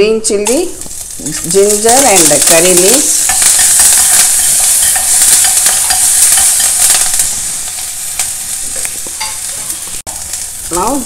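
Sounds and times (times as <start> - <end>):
spices sizzling in hot oil: 0.4 - 11.0
crackles and pops: 0.5 - 11.0.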